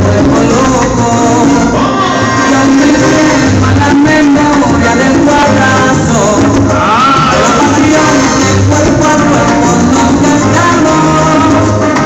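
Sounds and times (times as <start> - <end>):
dance music over sound system: 0.0 - 12.0.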